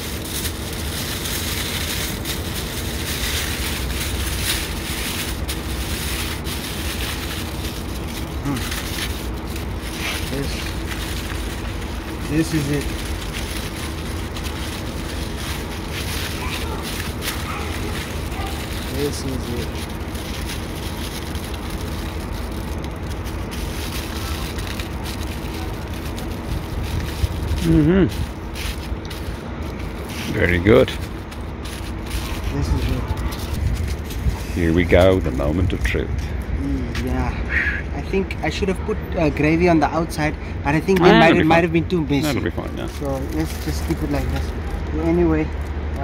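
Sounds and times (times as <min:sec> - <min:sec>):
aluminium foil crinkling: 0:00.0 - 0:36.3, 0:41.0 - 0:46.0
steady low rumble: 0:00.0 - 0:46.0.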